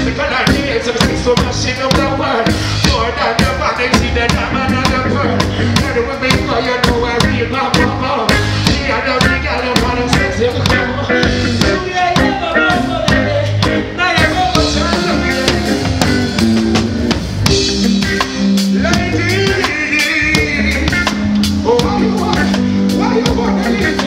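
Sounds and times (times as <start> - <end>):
live reggae band playing: 0.0 - 24.0.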